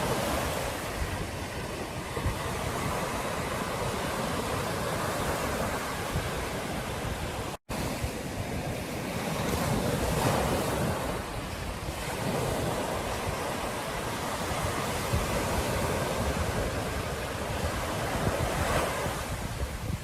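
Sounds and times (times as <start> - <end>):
ocean waves breaking on beach: 0.0 - 20.0.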